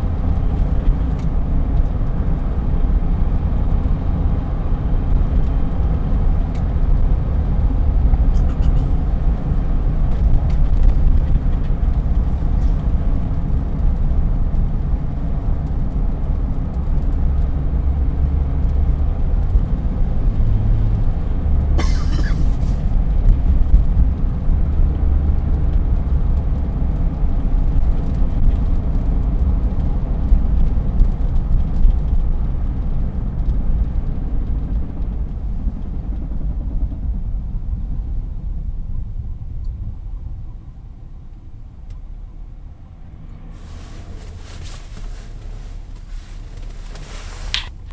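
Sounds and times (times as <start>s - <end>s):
truck road and drivetrain rumble: 0.0s - 47.9s.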